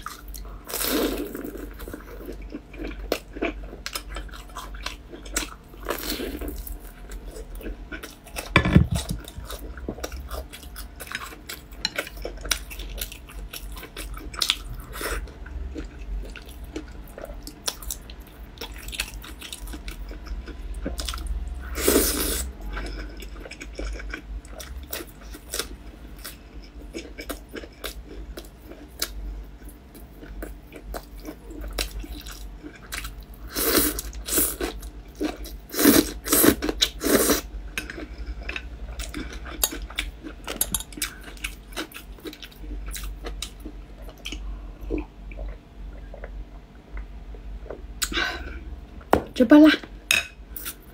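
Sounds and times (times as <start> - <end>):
chewing crunchy fried dough: 0.0 - 49.1.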